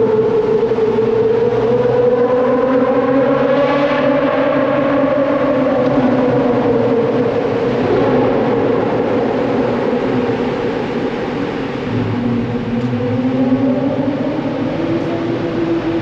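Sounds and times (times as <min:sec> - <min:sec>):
sports car engine exhaust: 0:00.0 - 0:16.0.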